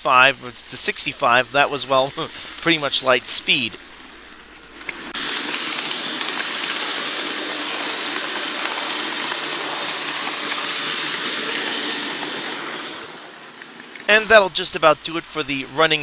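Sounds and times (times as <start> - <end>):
model train motor whirring: 0.0 - 16.0
wheels running on rails: 0.0 - 16.0.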